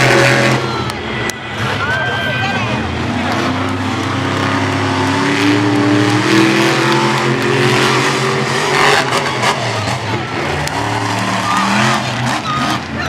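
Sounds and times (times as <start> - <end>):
monster truck engines revving: 0.0 - 13.0.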